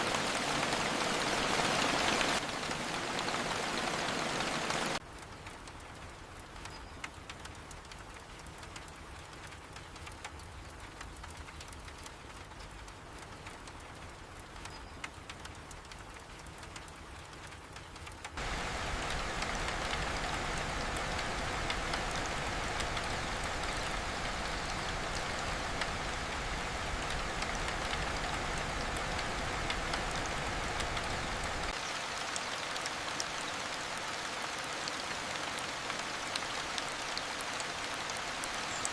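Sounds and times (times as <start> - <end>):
steady rain with patter of drops: 0.0 - 38.9.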